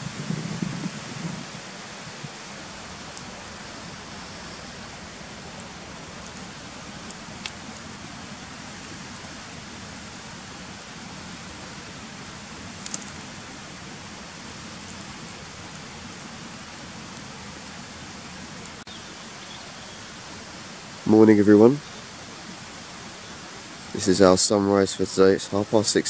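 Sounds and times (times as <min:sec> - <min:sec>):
campfire crackling and popping: 0:00.0 - 0:24.4
steady rushing hiss: 0:00.0 - 0:26.0.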